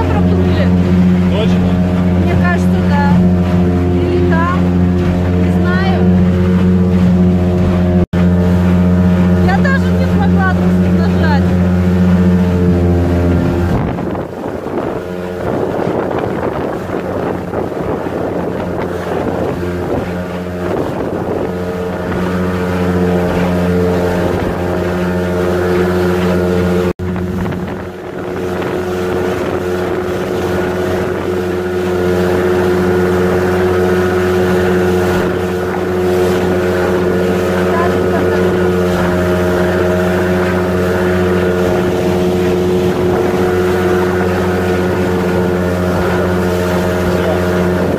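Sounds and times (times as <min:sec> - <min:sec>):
boat engine droning: 0:00.0 - 0:47.9
wind buffeting microphone: 0:00.0 - 0:47.9.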